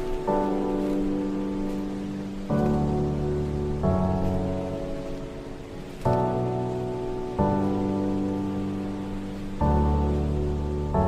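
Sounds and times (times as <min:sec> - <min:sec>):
slow music chord: 0:00.0 - 0:11.0
steady rain: 0:00.0 - 0:11.0.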